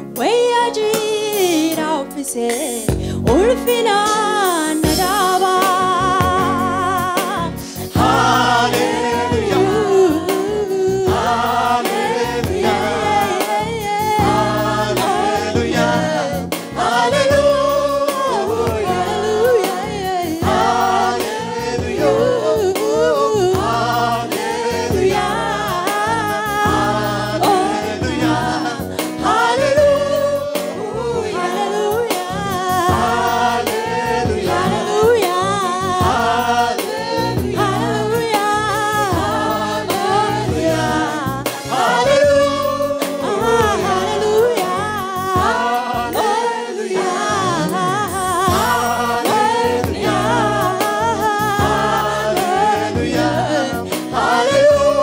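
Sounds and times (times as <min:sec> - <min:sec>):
gospel worship song: 0:00.0 - 0:55.0.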